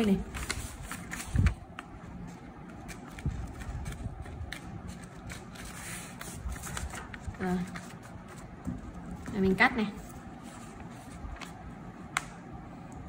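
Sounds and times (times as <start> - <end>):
paper rustling and crackling: 0.0 - 12.3.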